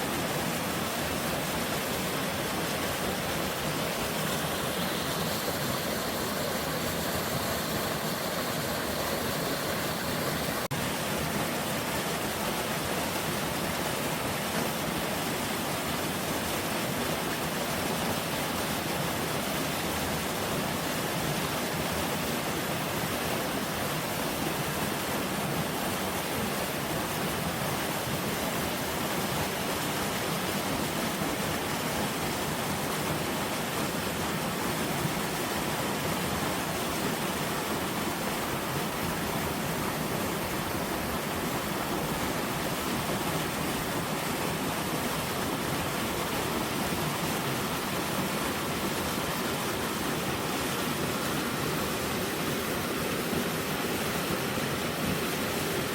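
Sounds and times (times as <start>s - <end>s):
stream running: 0.0s - 55.9s.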